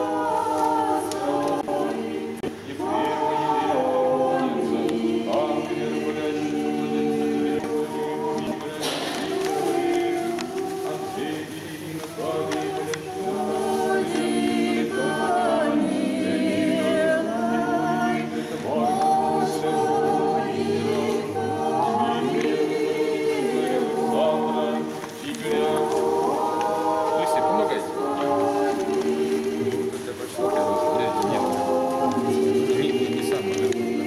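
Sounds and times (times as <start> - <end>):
group singing a hymn unaccompanied: 0.0 - 34.0.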